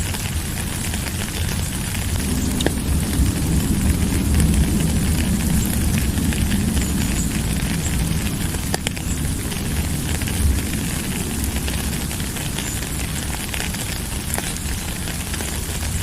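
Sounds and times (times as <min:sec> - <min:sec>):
deep low rumble: 0:00.0 - 0:16.0
heavy rain: 0:00.0 - 0:16.0.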